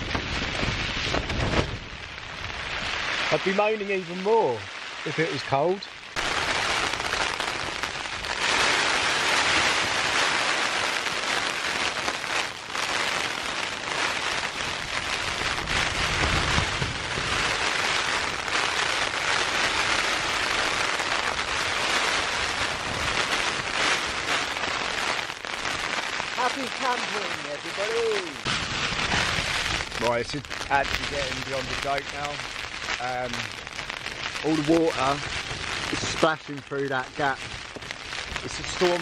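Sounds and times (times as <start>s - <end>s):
heavy rain on tent fabric: 0.0s - 39.0s
wind gusting against tent: 0.0s - 39.0s.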